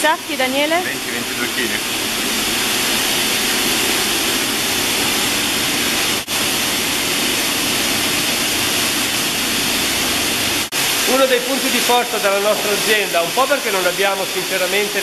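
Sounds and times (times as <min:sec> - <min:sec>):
machinery rushing noise: 0:00.0 - 0:15.0.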